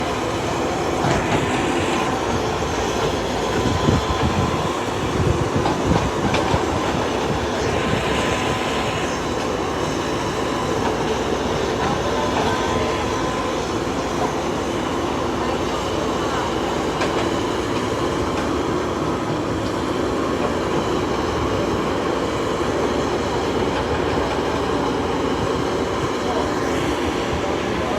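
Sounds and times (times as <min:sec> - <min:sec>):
excavator engine and hydraulics: 0:00.0 - 0:27.9.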